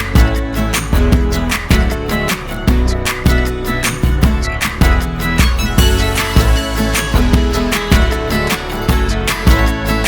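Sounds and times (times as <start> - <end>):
upbeat acoustic guitar music: 0.0 - 10.0.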